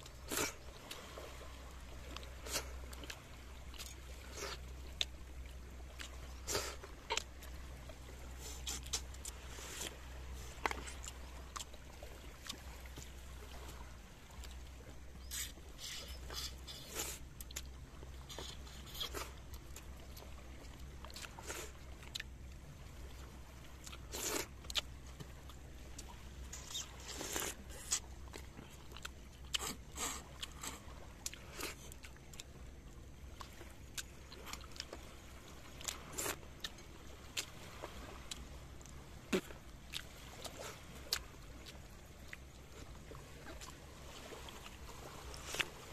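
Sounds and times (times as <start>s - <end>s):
chewing: 0.0s - 1.1s, 2.1s - 7.6s, 8.3s - 11.8s, 15.2s - 22.3s, 23.8s - 32.5s, 33.4s - 35.0s, 35.8s - 43.8s, 44.4s - 45.8s
steady low rumble: 0.0s - 45.9s.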